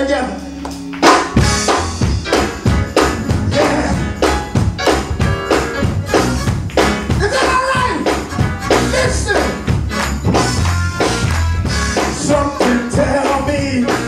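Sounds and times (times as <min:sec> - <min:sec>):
gospel band playing: 0:00.0 - 0:14.0
drums and tambourine beat: 0:00.5 - 0:14.0.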